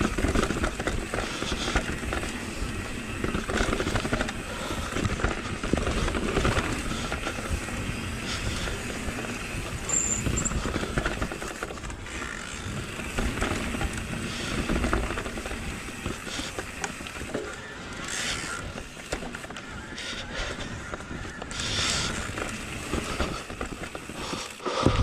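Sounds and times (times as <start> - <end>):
bike rattling over bumps: 0.0 - 25.0
bike tyres on dirt and stones: 0.0 - 25.0.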